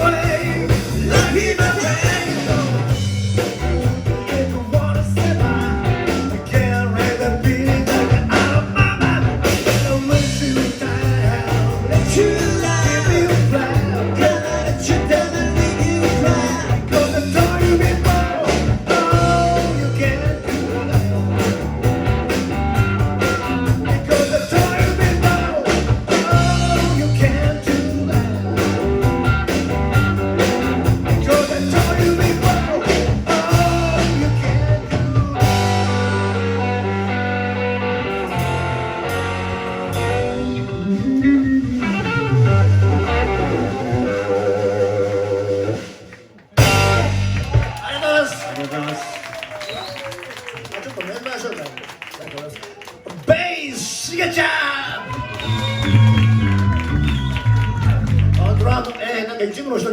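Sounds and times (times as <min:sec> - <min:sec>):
rock and roll music: 0:00.0 - 0:49.0, 0:53.8 - 0:59.9.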